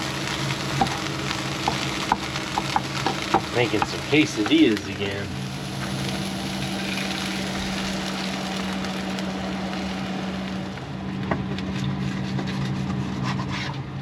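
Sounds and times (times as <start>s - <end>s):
food sizzling in a pan: 0.0s - 12.2s
low steady hum: 0.0s - 14.0s.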